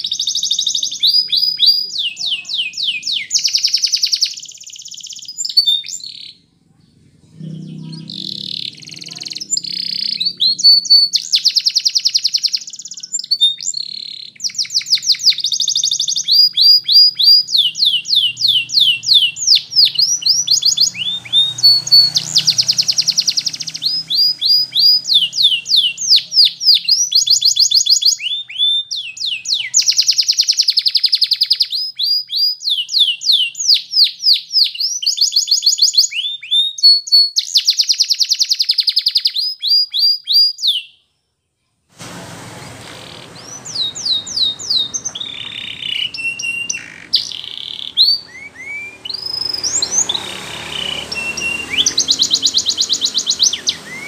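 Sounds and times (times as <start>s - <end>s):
canary singing trills: 0.0s - 6.5s, 7.4s - 41.1s, 42.6s - 54.0s.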